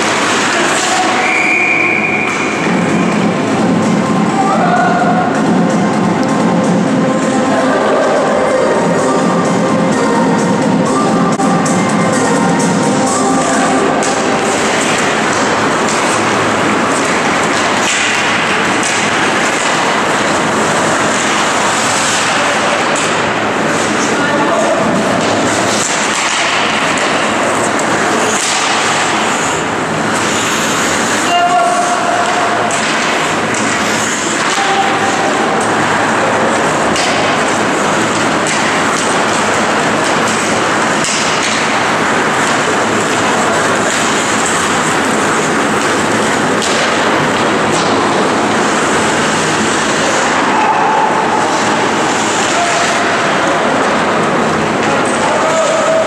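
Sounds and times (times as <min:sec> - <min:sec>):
skates on ice: 0:00.0 - 0:08.2, 0:13.0 - 0:56.0
arena ambience rushing: 0:00.0 - 0:56.0.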